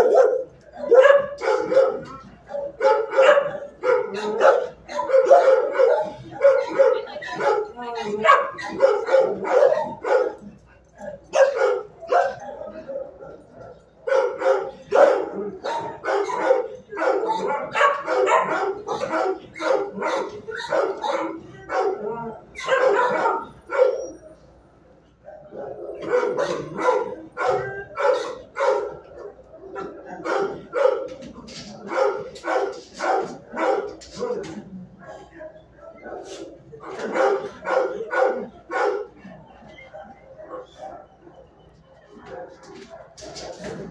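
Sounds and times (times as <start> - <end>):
dogs barking: 0.0 - 43.9.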